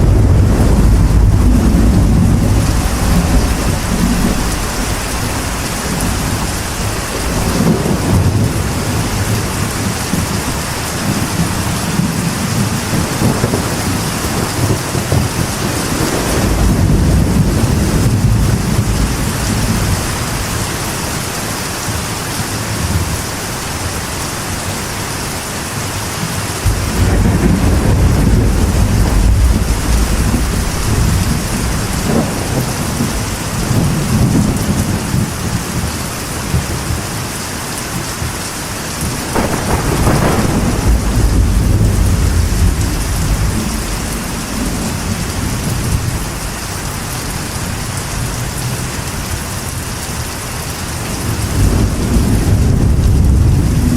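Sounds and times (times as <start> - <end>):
rolling thunder: 0.0 - 21.3, 26.2 - 50.3, 51.0 - 53.9
rain drumming on a metal roof: 0.0 - 53.9.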